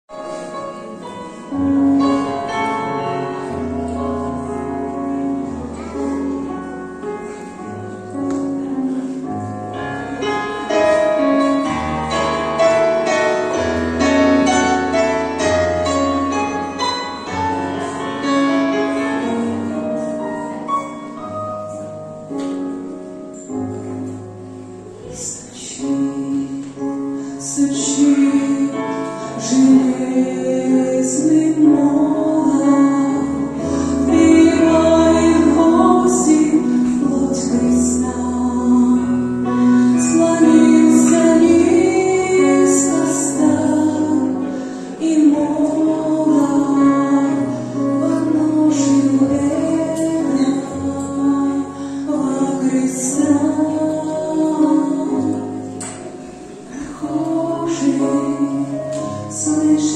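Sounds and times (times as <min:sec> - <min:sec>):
keyboard hymn melody: 0:00.1 - 0:59.9.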